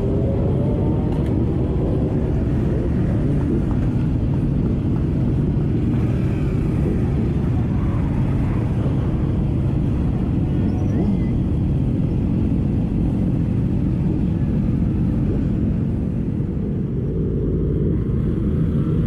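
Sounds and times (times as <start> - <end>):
motorcycle engine and road noise: 0.0 - 19.0.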